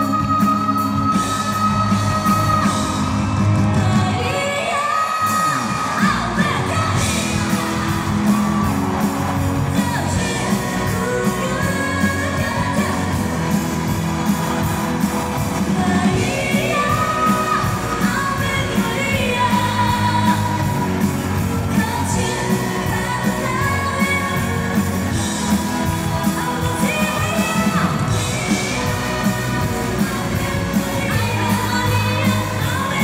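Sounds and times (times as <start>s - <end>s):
live pop band playing: 0.0s - 33.0s
woman singing lead: 0.0s - 33.0s
steady drum beat: 5.3s - 33.0s.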